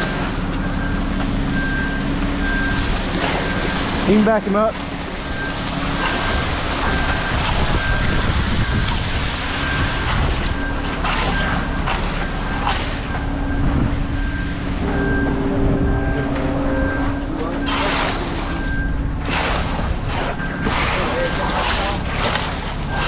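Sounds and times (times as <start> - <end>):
backup alarm beeps: 0.0 - 23.0
diesel engine running: 0.0 - 23.0.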